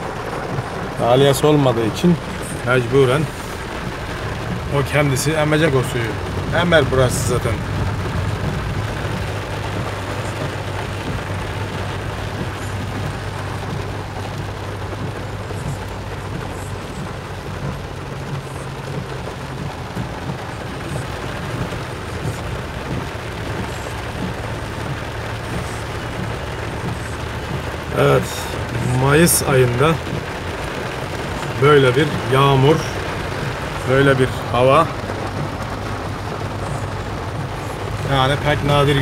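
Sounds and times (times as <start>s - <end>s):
car engine hum: 0.0s - 39.0s
hiss of rain and wet tyres: 0.0s - 39.0s.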